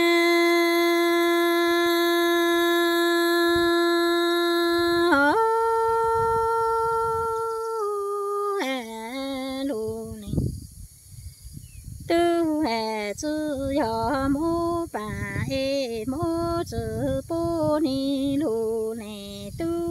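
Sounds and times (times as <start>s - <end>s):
woman singing long held notes: 0.0s - 10.5s, 12.1s - 19.9s.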